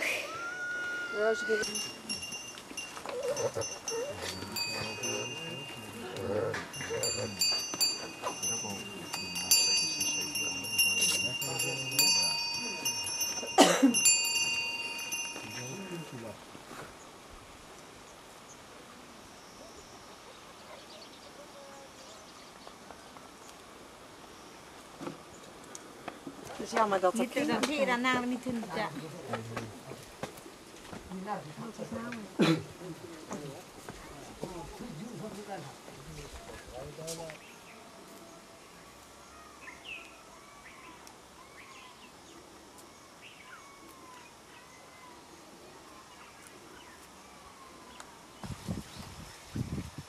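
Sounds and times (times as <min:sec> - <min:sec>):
steady outdoor hiss: 0:00.0 - 0:50.0.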